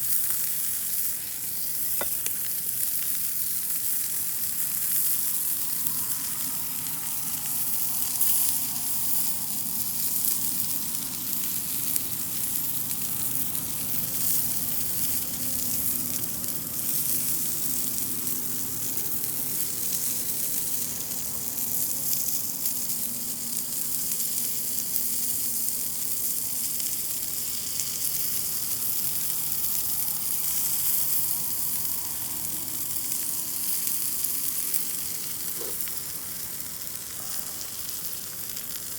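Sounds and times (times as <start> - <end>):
meat sizzling over campfire: 0.0 - 38.9.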